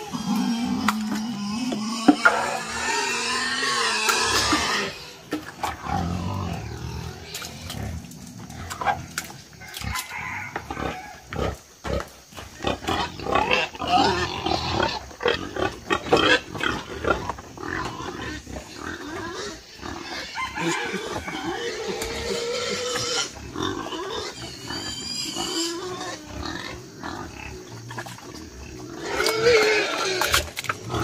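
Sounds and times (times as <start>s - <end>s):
wild boars grunting and squealing: 0.0s - 31.0s.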